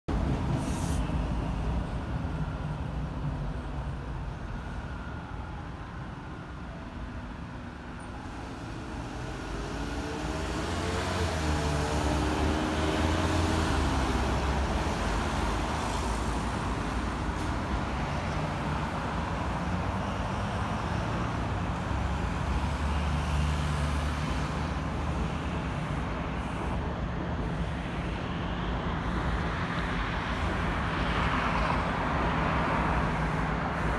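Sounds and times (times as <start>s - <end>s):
bus engine rumble: 0.1s - 33.9s
elevated train crossing overhead: 0.1s - 33.9s.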